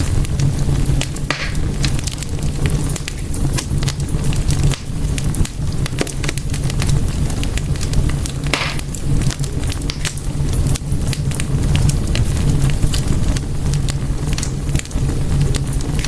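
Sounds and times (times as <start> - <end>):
fire hiss: 0.0 - 16.0
wood fire crackling and popping: 0.0 - 16.0.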